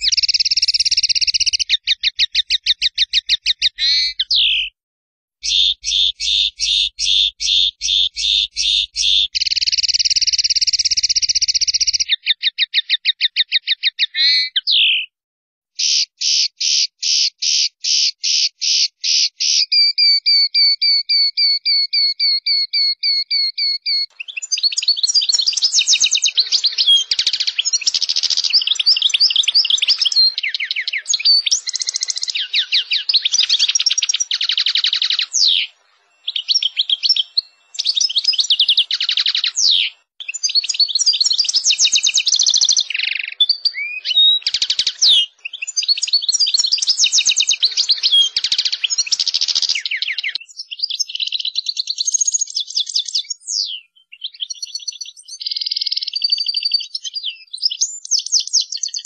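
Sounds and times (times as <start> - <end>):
finch singing trills and twitters: 0.0 - 4.8, 5.4 - 15.1, 15.8 - 59.0.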